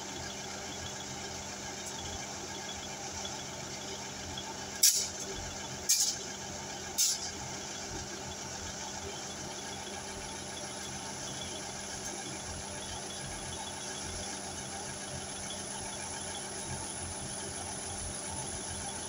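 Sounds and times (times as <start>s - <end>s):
diesel train engine idling: 0.0s - 19.0s.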